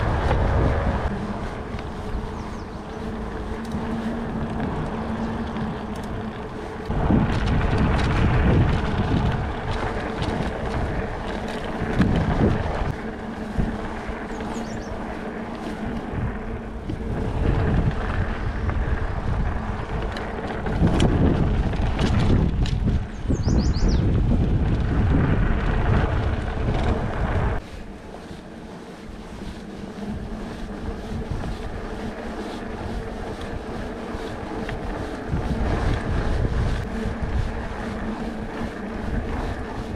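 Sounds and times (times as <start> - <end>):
bike tyres rolling on dirt: 0.0 - 39.9
wind on microphone: 0.0 - 39.9.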